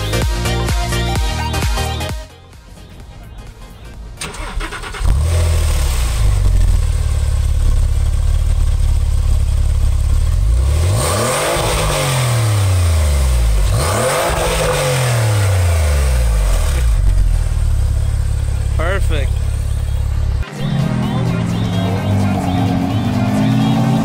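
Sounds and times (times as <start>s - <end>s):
car exhaust idling and revving: 4.6s - 24.0s.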